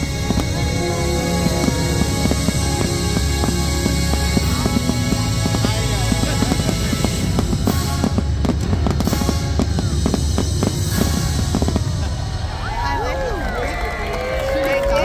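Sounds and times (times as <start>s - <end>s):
music playing: 0.0s - 13.9s
fireworks bangs and crackles: 0.0s - 15.0s.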